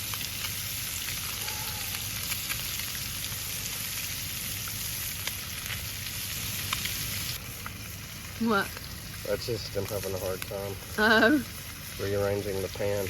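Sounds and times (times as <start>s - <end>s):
fish frying in a pan: 0.0s - 13.0s.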